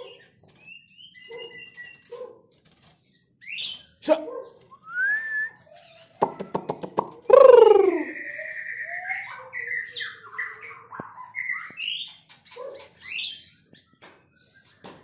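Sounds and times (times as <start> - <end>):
songbird singing: 0.0 - 2.2, 3.2 - 15.0.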